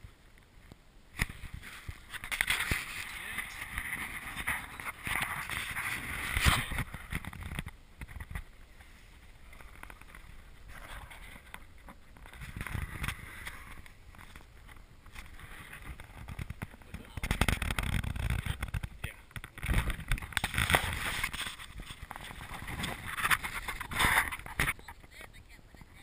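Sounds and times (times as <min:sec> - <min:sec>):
camera handling rustling and knocking: 0:01.2 - 0:08.5, 0:09.5 - 0:24.8.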